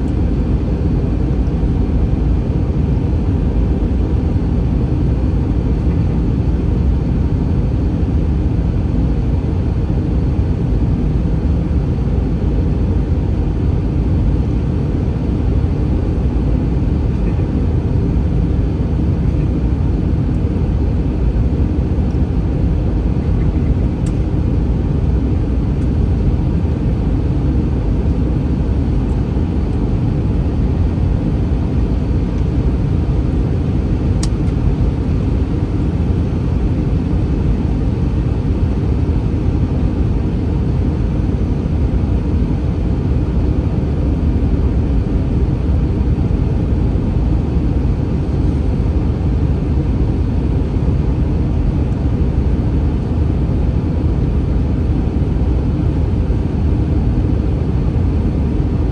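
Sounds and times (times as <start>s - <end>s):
airplane engines low rumble: 0.0s - 58.9s.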